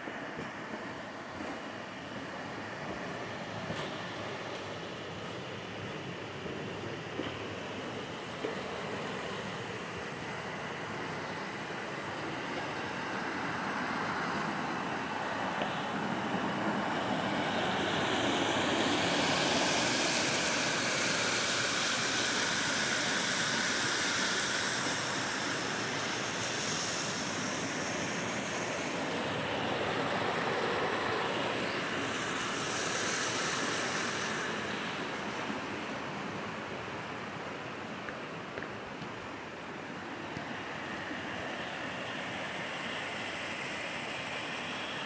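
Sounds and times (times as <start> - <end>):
stream rushing over rocks: 2.2 - 45.0.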